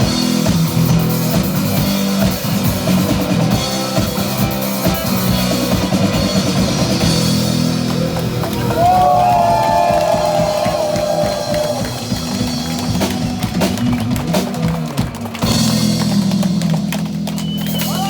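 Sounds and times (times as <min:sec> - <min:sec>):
drum kit beating: 0:00.0 - 0:18.0
rock band playing live: 0:00.0 - 0:18.0.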